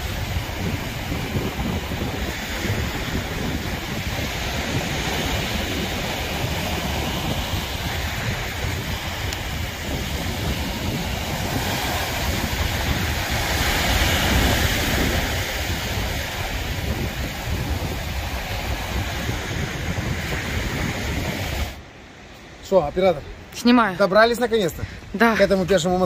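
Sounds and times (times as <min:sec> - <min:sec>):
wind buffeting microphone: 0:00.0 - 0:23.6
waves washing on beach: 0:00.0 - 0:26.0.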